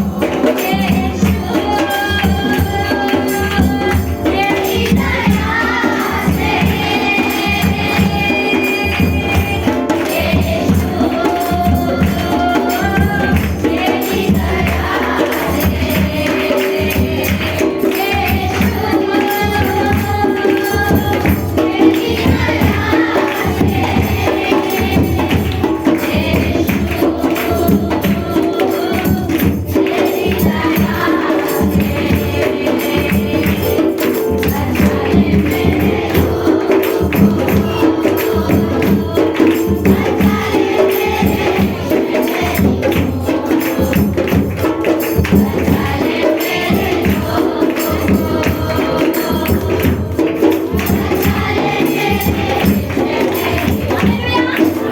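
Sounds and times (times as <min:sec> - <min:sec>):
group singing devotional song: 0:00.0 - 0:54.9
jingling tambourine: 0:00.0 - 0:54.9.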